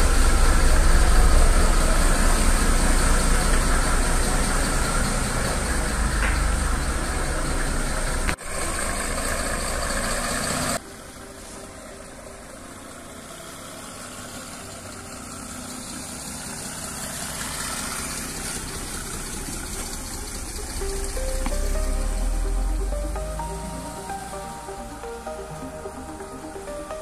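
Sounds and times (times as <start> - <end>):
diesel car engine running: 0.0 - 27.0
road noise: 0.0 - 27.0.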